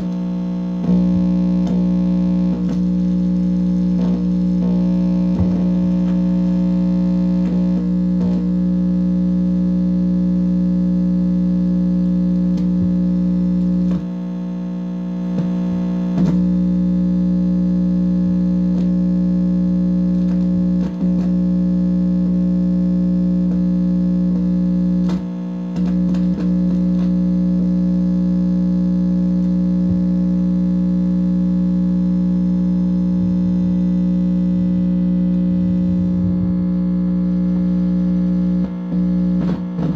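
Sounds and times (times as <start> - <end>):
electronic buzz: 0.0 - 39.9.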